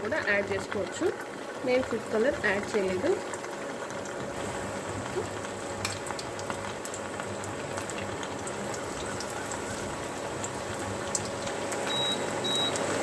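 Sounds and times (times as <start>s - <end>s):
food deep-frying in hot oil: 0.0s - 13.0s.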